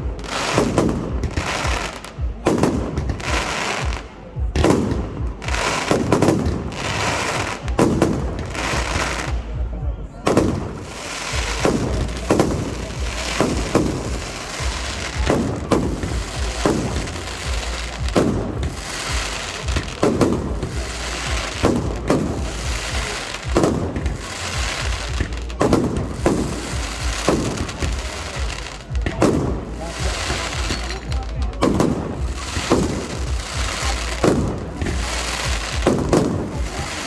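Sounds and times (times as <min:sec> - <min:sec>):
fireworks exploding: 0:00.0 - 0:37.0.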